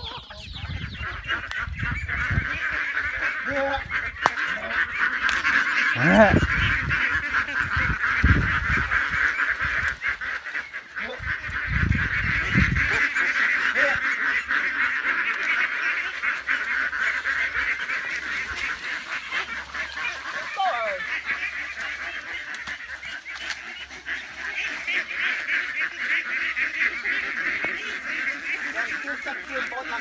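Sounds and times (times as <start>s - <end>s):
poultry flock chattering: 0.0s - 30.0s.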